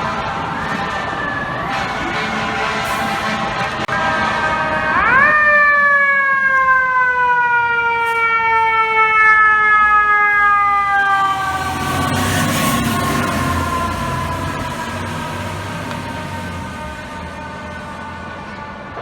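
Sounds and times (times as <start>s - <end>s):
fire truck siren: 0.0s - 19.0s
street traffic noise: 0.0s - 19.0s.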